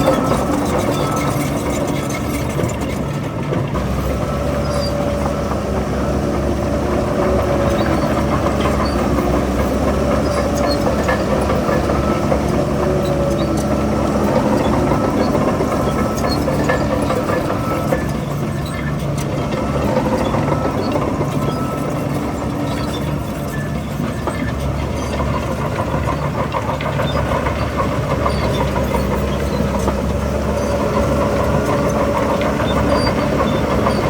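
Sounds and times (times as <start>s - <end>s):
diesel engine rumbling: 0.0s - 34.0s.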